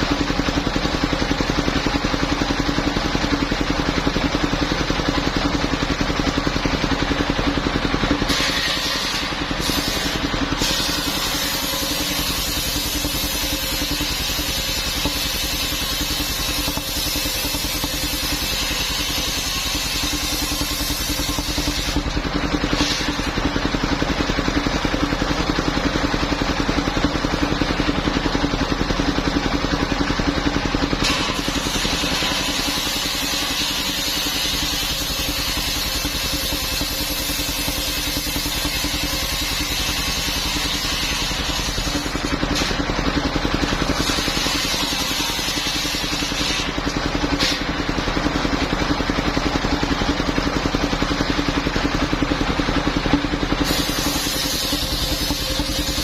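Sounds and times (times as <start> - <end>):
circular saw blade cutting wood: 0.0 - 48.3, 52.6 - 56.0
sawmill engine running: 0.0 - 56.0.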